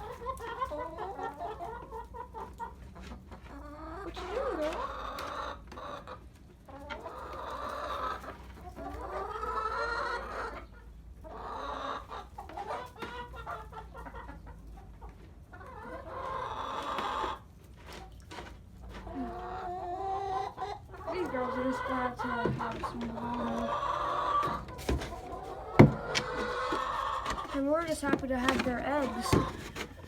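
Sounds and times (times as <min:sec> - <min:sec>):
hens clucking and squawking: 0:00.0 - 0:30.0.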